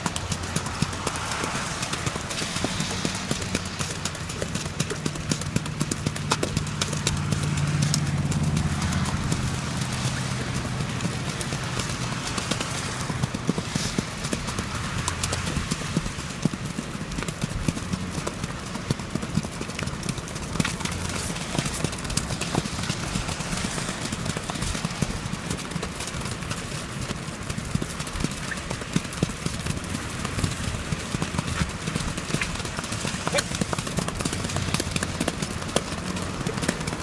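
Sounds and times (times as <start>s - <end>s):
hoofbeats on turf: 0.0s - 37.0s.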